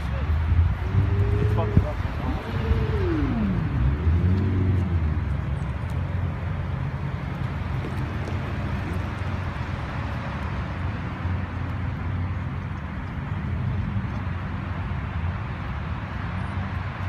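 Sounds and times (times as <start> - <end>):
car engine running at low revs: 0.0 - 17.0
street noise: 0.0 - 17.0.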